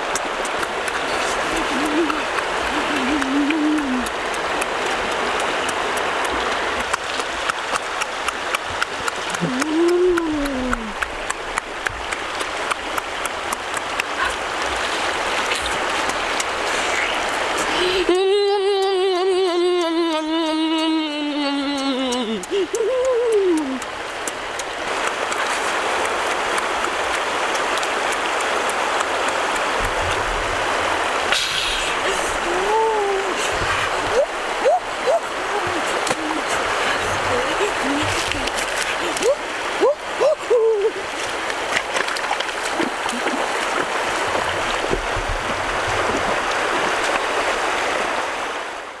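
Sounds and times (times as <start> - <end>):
river rushing over rapids: 0.0 - 49.0.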